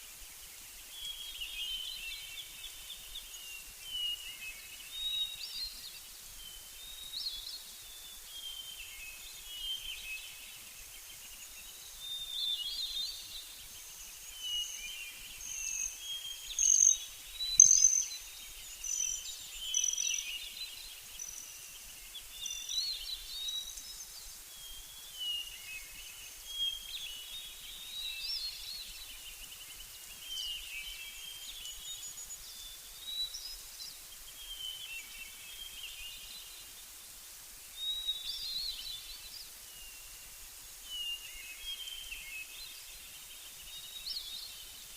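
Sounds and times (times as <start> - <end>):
songbirds chirping and trilling: 0.1 - 37.2.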